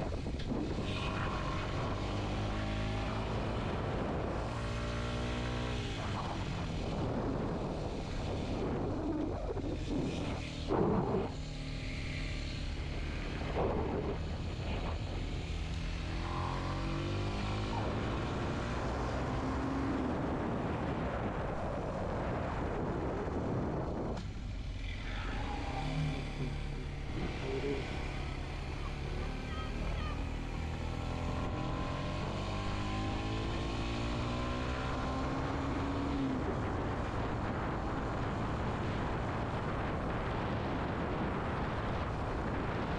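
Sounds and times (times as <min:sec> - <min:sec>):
motorcycle engine revving: 0:00.0 - 0:21.4, 0:24.0 - 0:42.9
steady rushing noise: 0:00.0 - 0:34.4.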